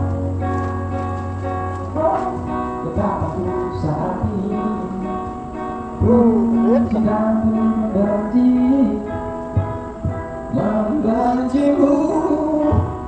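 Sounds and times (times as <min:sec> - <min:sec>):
song with singing and guitar: 0:00.0 - 0:13.0.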